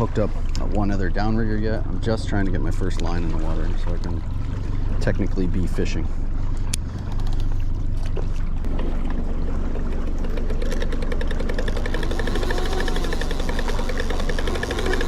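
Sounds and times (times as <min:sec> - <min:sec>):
outboard motor humming: 0:00.0 - 0:15.0
water noise: 0:00.0 - 0:15.0.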